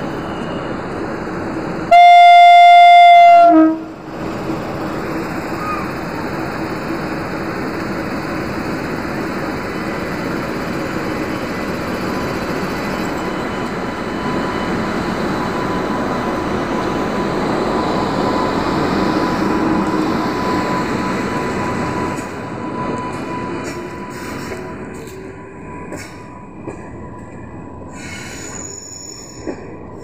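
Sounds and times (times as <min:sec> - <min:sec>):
electric locomotive rolling past: 0:00.0 - 0:30.0.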